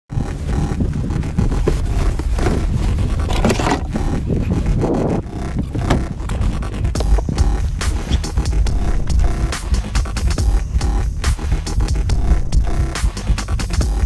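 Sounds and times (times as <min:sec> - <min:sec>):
wind rumbling on microphone: 0:00.1 - 0:13.0
gear scraping and knocking: 0:00.1 - 0:14.0.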